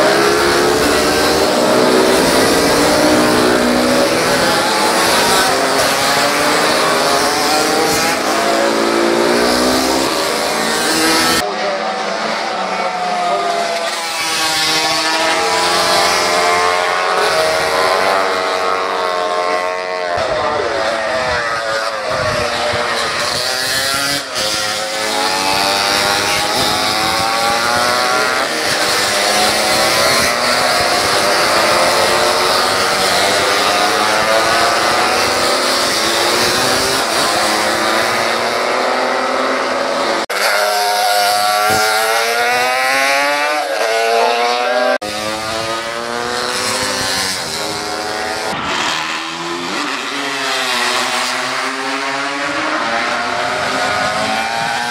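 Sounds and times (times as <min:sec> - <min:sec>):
racing motorcycles passing: 0:00.0 - 0:54.9.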